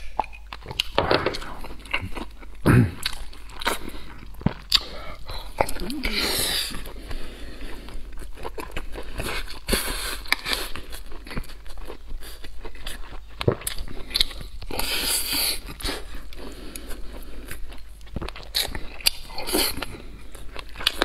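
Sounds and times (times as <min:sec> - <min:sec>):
person chewing and biting: 0:00.0 - 0:21.0.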